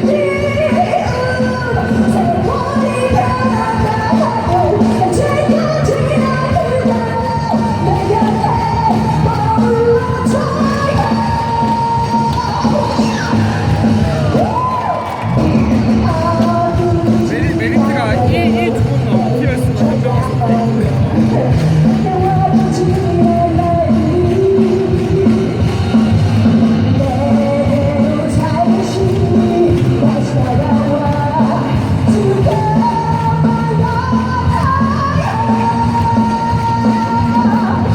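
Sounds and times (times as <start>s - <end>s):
pop-rock band playing: 0.0s - 37.9s.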